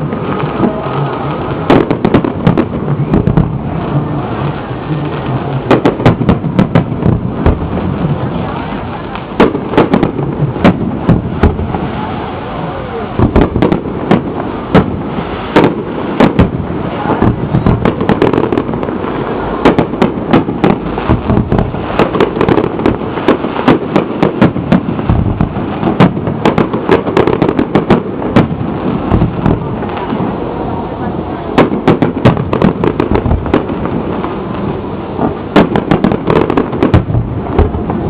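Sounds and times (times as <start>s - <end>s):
fireworks bangs and crackles: 0.0s - 38.0s
fireworks rumbling: 0.0s - 38.0s.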